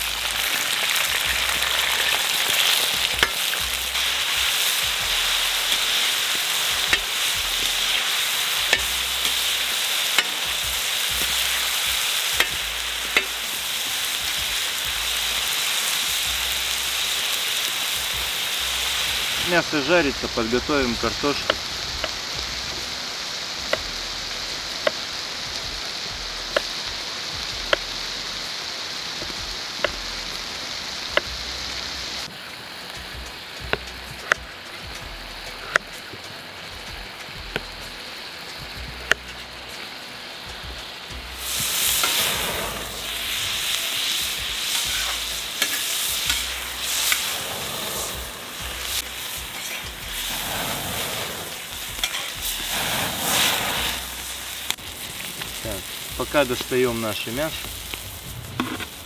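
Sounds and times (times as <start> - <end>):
meat sizzling in oil: 0.0 - 59.0.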